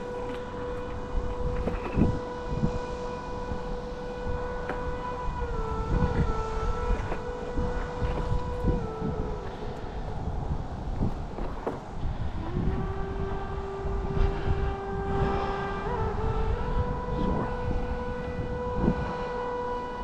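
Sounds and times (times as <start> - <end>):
flute playing long notes: 0.0 - 20.0.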